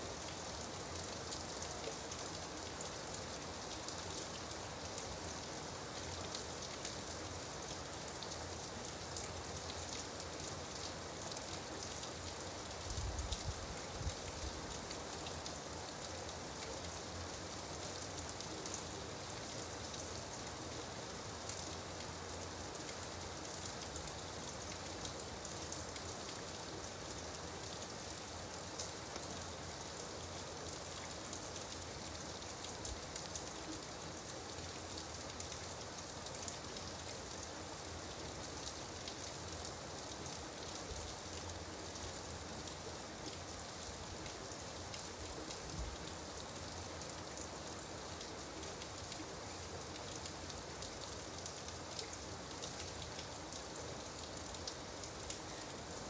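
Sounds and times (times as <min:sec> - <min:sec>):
gentle rain falling: 0:00.0 - 0:56.0.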